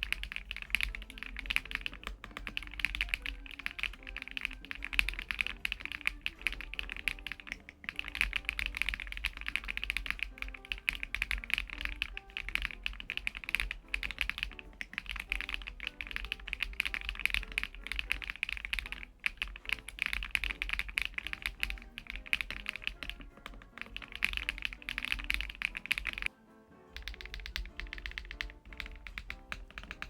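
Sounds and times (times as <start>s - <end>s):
mechanical keyboard typing: 0.0s - 26.3s, 27.0s - 30.0s
background music: 0.0s - 30.0s.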